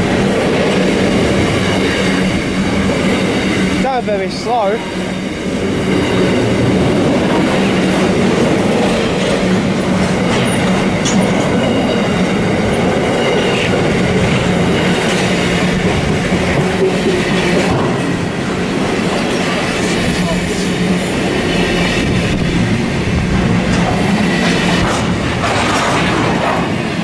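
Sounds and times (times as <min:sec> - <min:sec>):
freight train wagons rumbling: 0:00.0 - 0:27.0.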